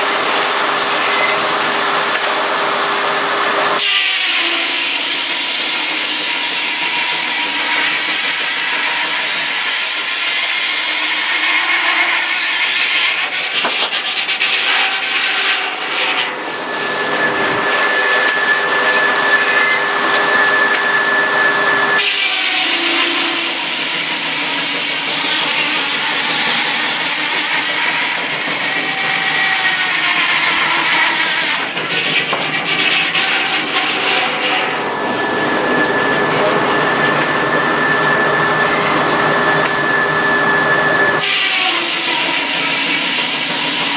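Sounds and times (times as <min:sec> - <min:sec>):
saw cutting through log: 0:00.0 - 0:43.9
steady saw whine: 0:00.0 - 0:43.9.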